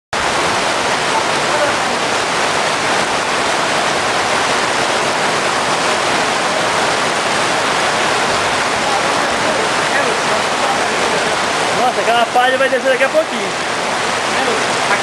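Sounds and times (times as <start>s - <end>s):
heavy rain pouring: 0.1s - 15.0s
running runoff water: 0.1s - 15.0s.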